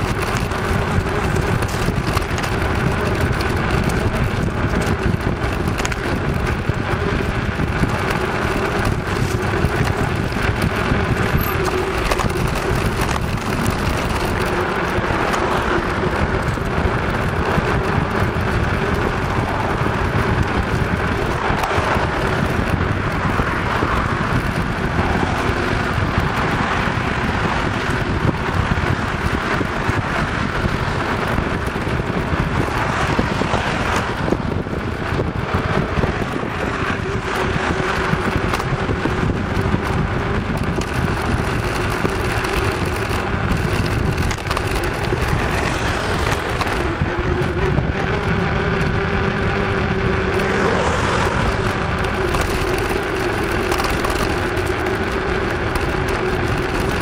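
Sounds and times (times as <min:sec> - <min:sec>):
bicycle tyres rolling on pavement: 0:00.0 - 0:57.0
car traffic: 0:00.0 - 0:57.0
wind noise on microphone: 0:00.0 - 0:57.0.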